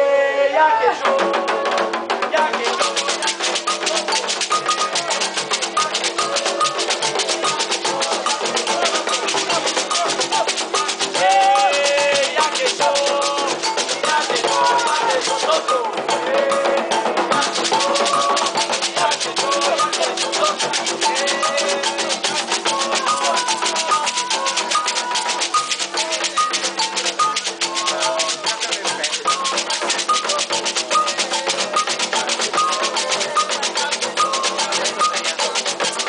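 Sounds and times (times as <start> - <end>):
voices singing a chant: 0.0 - 36.0
drums and rattles rhythm: 0.7 - 36.0.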